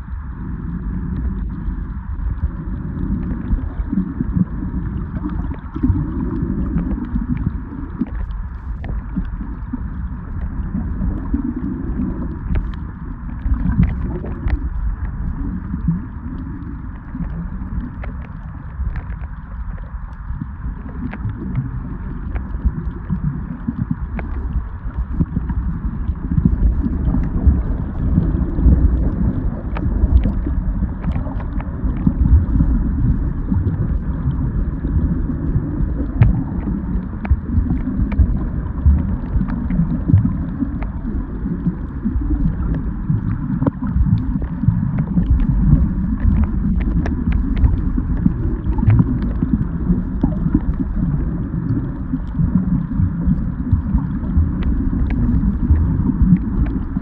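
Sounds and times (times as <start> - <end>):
underwater rumble of moving water: 0.0 - 57.0.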